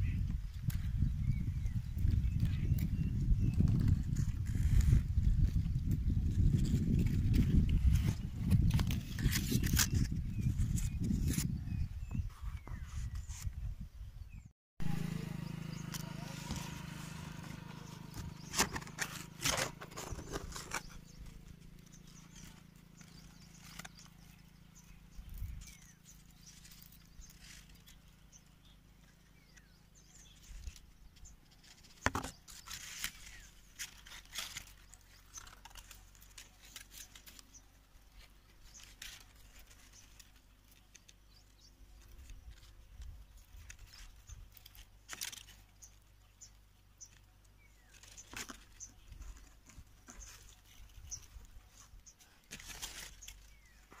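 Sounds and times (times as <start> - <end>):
leaves and twigs rustling: 0.0 - 13.5, 14.9 - 54.0.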